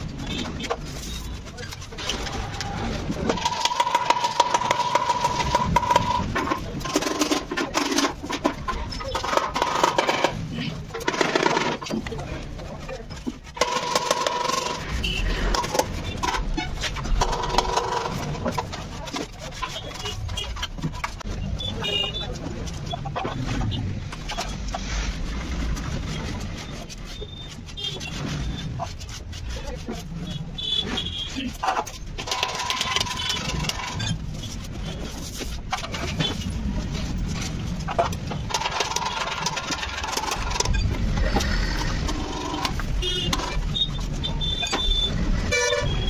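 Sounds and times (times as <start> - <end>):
vehicle engines running: 0.0 - 46.0.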